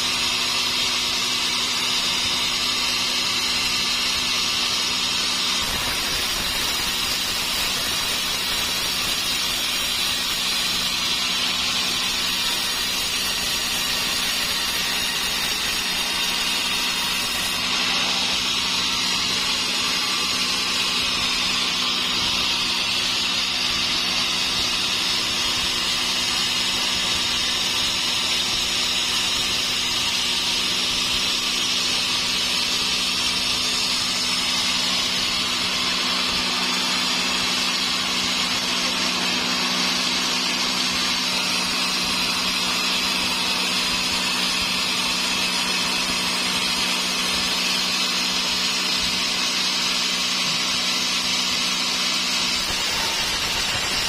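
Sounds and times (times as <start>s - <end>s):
high-pitched saw cutting timber: 0.0s - 54.0s.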